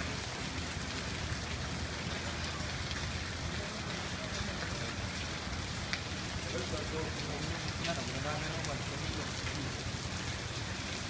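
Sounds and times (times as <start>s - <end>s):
raindrop ticks: 0.0s - 11.0s
steady rain hissing: 0.0s - 11.0s.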